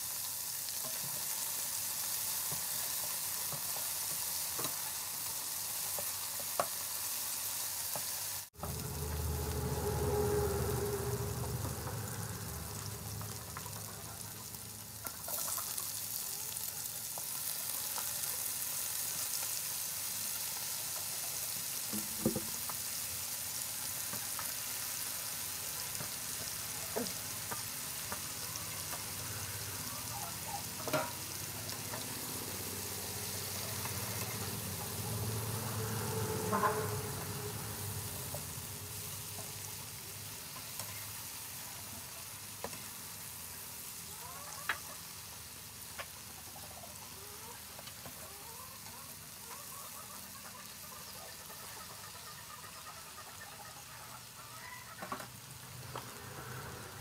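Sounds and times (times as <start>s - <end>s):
mushrooms sizzling in oil: 0.0s - 57.0s.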